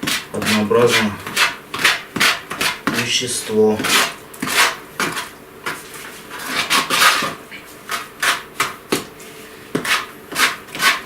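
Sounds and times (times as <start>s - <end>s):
tool scraping wet mortar: 0.0s - 8.8s, 9.8s - 11.0s.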